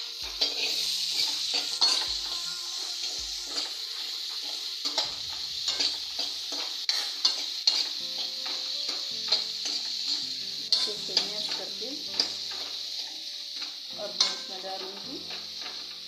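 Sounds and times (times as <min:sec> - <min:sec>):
metal spoon scraping a pan: 0:00.0 - 0:16.0
potatoes sizzling in oil: 0:00.0 - 0:16.0.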